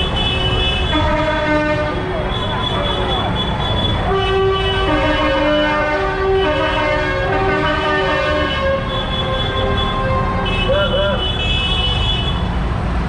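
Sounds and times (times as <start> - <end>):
tractor engines rumbling: 0.0 - 13.0
tune in held horn-like notes: 0.1 - 11.4.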